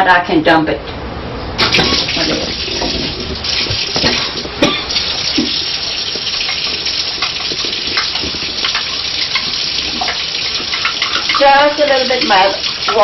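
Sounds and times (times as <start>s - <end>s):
water pouring into a pot: 1.6s - 13.0s.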